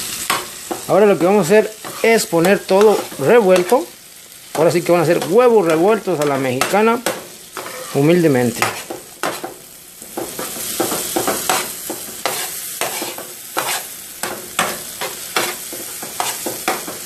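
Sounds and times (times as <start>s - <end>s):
eggs sizzling in a frying pan: 0.0s - 17.0s
utensil scraping a pan: 0.3s - 3.8s, 4.5s - 17.0s.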